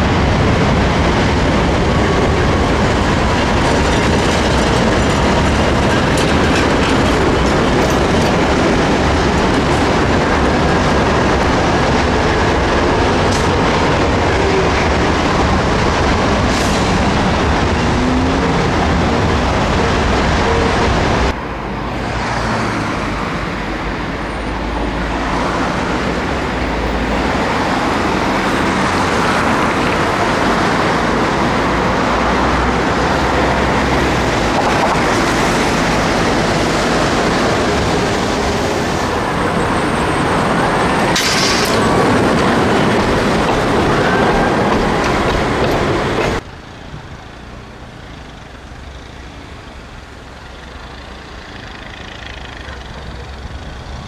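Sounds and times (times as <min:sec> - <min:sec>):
traffic passing close by: 0:00.0 - 0:54.0.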